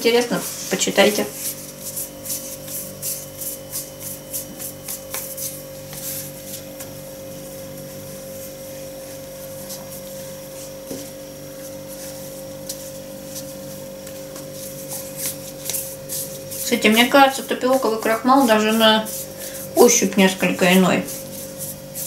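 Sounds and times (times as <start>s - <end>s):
palms rubbing dough ball: 0.0s - 22.0s
hand brushing over starch mat: 0.2s - 6.8s, 8.3s - 19.8s, 20.4s - 22.0s.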